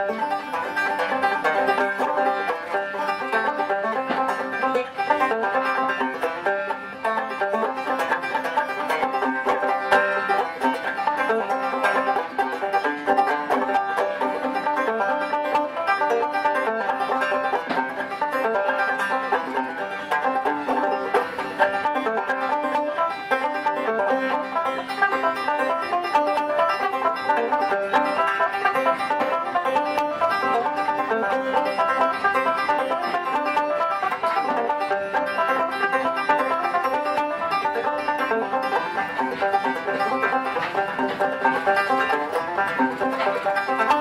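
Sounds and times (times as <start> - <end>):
banjo plucked tune: 0.0 - 44.0.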